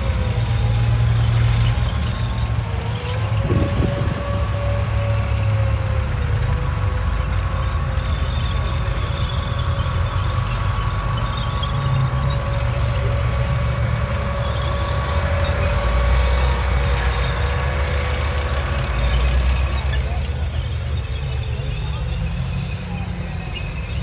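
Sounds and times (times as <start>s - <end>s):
tank engine rumble: 0.0s - 24.0s.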